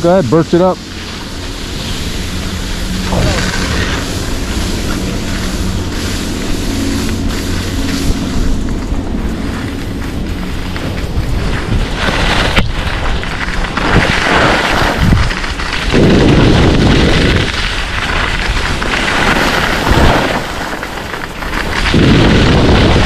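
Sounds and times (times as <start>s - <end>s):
skis scraping across snow: 0.0s - 23.0s
wind buffeting microphone: 0.0s - 23.0s.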